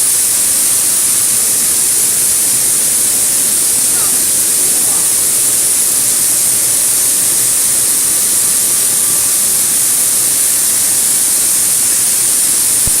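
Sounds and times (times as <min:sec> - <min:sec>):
flour milling machine hissing: 0:00.0 - 0:13.0.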